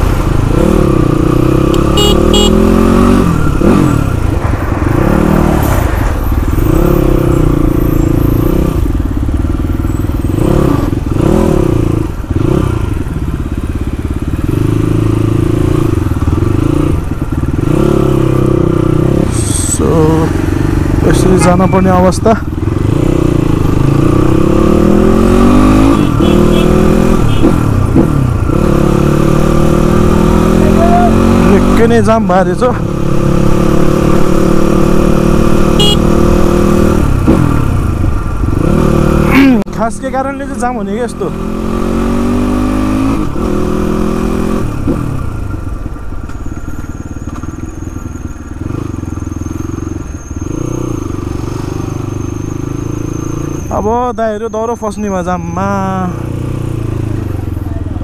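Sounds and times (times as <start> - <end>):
motorcycle engine running: 0.0 - 54.7, 55.5 - 58.0.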